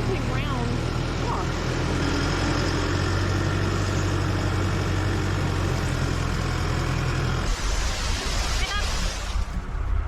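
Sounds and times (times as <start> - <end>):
heavy truck engine running: 0.0 - 10.0.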